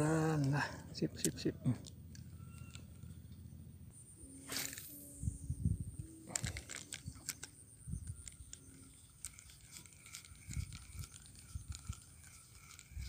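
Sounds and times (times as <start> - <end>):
fishing reel clicks and rustles: 0.0 - 3.5, 6.0 - 13.0.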